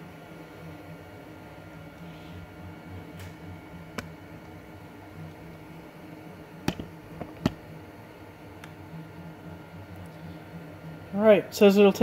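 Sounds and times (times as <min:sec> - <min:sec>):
stepper motors humming: 0:00.0 - 0:12.0.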